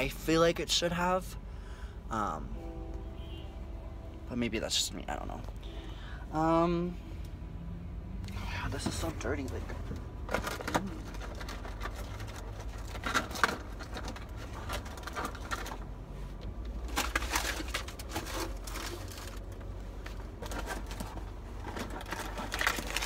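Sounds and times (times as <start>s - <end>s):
low hum: 1.4s - 22.6s.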